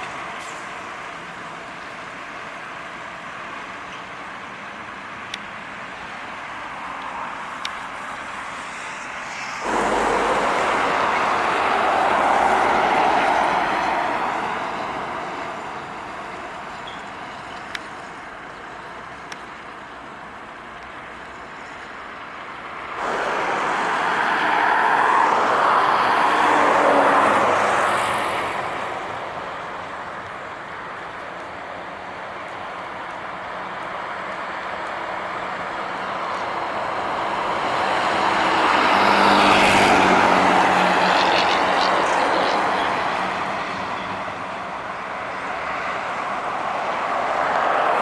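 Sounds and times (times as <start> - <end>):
background traffic: 0.0 - 48.0
heavy trucks passing: 0.0 - 48.0.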